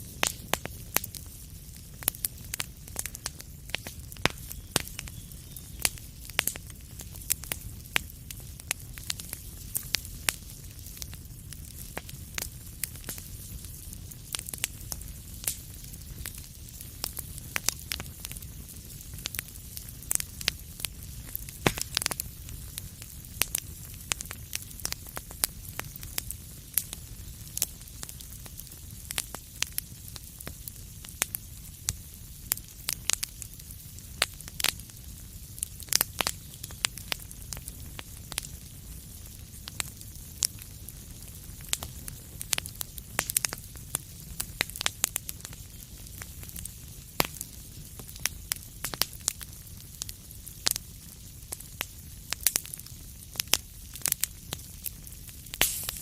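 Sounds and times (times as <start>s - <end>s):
fire crackling and popping: 0.0s - 56.0s
low rumble of flame: 0.0s - 56.0s.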